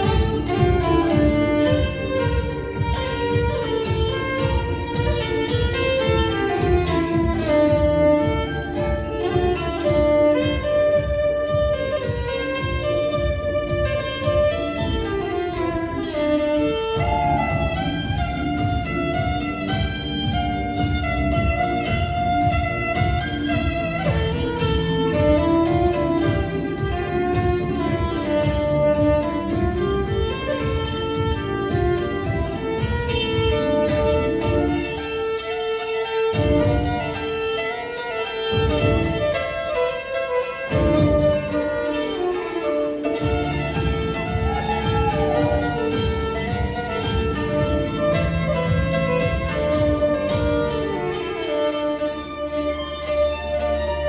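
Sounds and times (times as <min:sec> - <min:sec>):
low pulsing accompaniment: 0:00.0 - 0:35.0, 0:40.6 - 0:41.9, 0:43.1 - 0:54.0
backing track with steady beat: 0:00.0 - 0:54.0
violin melody: 0:00.0 - 0:54.0.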